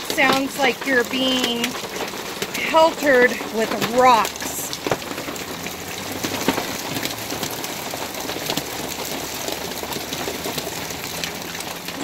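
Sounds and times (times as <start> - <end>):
hailstones clattering: 0.0 - 12.0.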